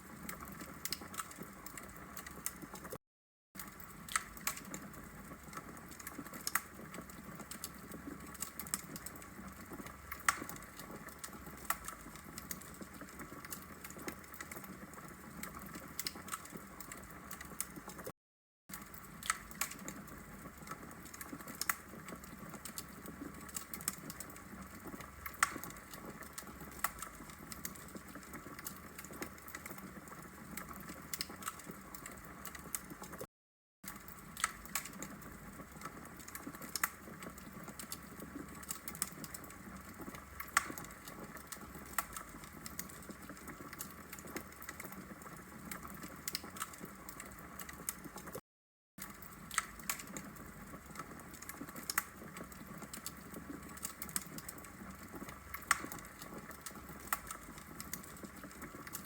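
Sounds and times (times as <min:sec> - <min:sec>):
wood fire crackling: 0:00.0 - 0:03.0, 0:03.6 - 0:18.1, 0:18.7 - 0:33.3, 0:33.9 - 0:48.4, 0:49.0 - 0:59.0.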